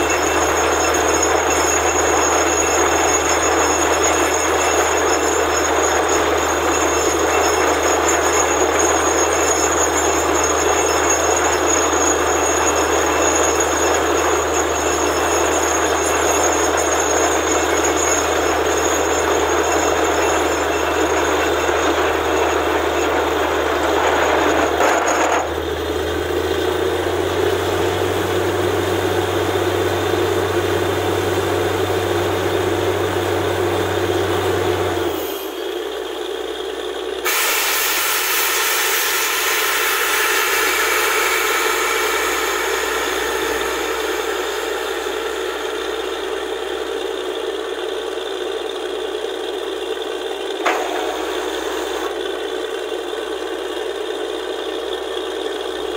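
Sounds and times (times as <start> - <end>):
drilling rig rushing noise: 0.0 - 53.2.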